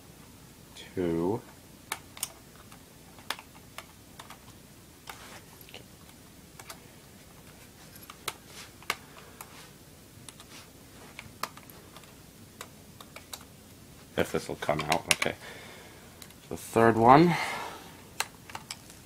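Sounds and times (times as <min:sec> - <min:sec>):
quiet room hiss: 0:00.0 - 0:19.0.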